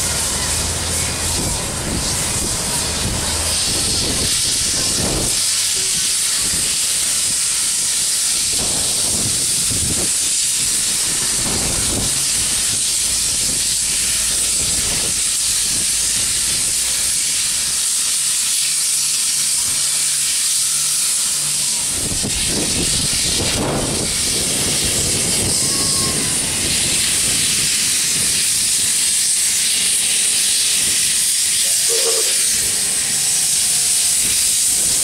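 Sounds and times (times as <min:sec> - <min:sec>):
steam hissing: 0:00.0 - 0:35.0
steam locomotive exhaust chuffs: 0:00.0 - 0:35.0.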